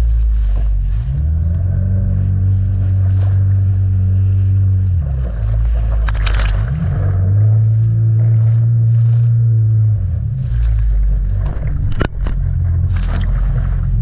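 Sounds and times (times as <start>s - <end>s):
jetski engine running: 0.0s - 14.0s
water splashing: 0.0s - 14.0s.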